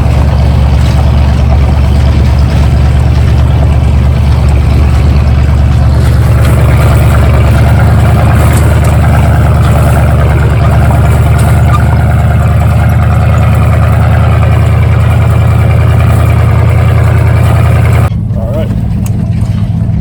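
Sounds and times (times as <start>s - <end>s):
truck engine droning at low rpm: 0.0s - 20.0s.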